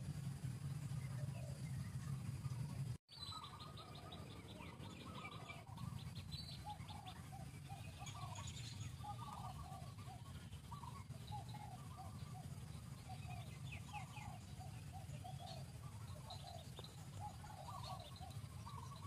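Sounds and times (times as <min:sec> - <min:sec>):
low steady rumble: 0:00.0 - 0:19.0
birds chirping: 0:00.1 - 0:19.0
bird ticking trill: 0:00.2 - 0:19.0.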